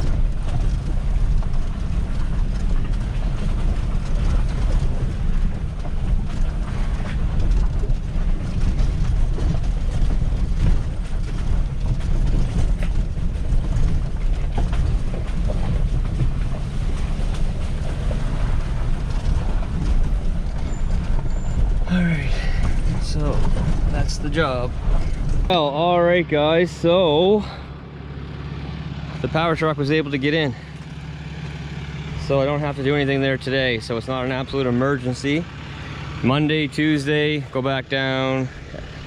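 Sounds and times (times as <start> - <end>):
road noise: 0.0 - 39.0
truck engine rumble: 0.0 - 39.0.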